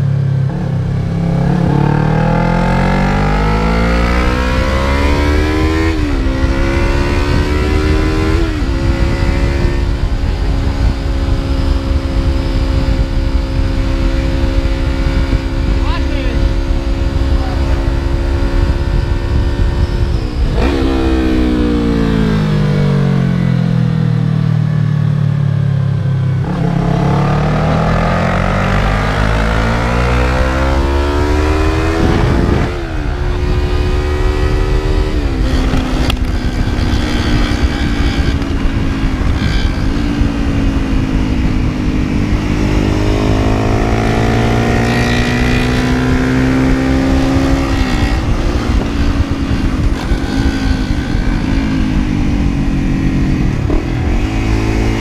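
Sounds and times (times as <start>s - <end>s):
wind rush: 0.0s - 24.2s, 25.1s - 55.0s
motorcycle engine revving: 0.0s - 55.0s.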